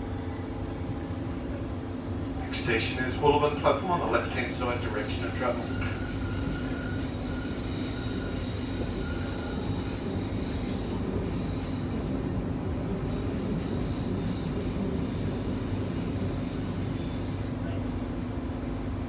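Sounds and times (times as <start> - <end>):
train wheels rumbling on rails: 1.7 - 19.0.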